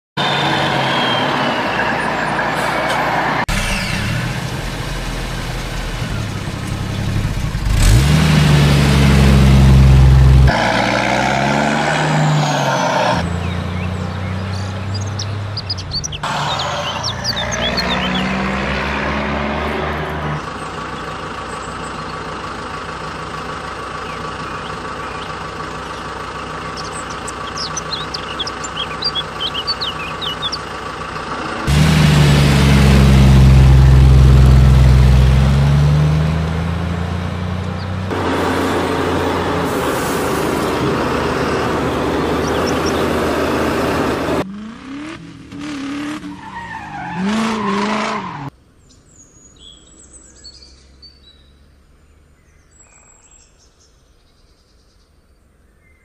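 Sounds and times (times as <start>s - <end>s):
truck engine revving: 0.2s - 48.6s.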